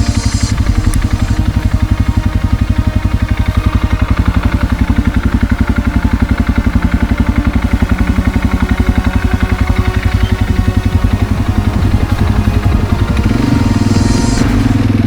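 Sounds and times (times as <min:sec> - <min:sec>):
engine running with rapid pulse: 0:00.0 - 0:15.0.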